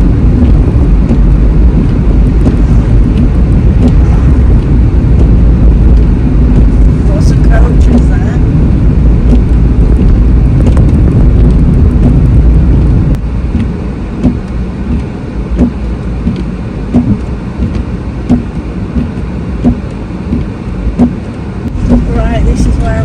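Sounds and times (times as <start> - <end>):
turn signal ticking: 0.0 - 8.2, 8.8 - 23.0
road rumble inside car: 0.0 - 23.0.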